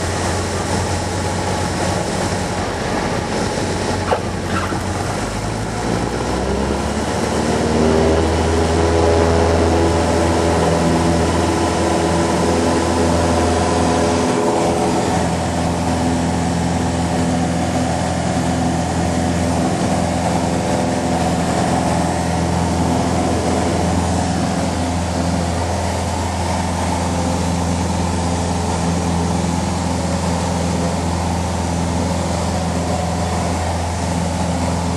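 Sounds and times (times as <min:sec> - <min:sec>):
light aircraft engine and propeller: 0:00.0 - 0:34.9.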